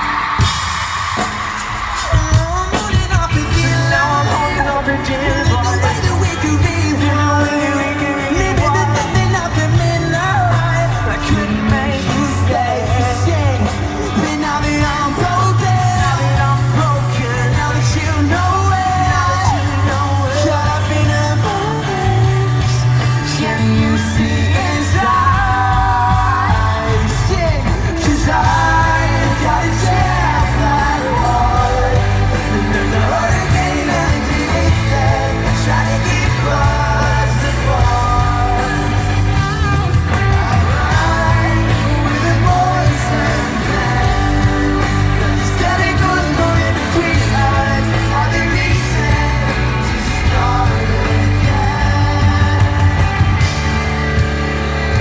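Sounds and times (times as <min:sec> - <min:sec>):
audience yelling along: 0:00.0 - 0:55.0
live pop-rock band playing: 0:00.0 - 0:55.0.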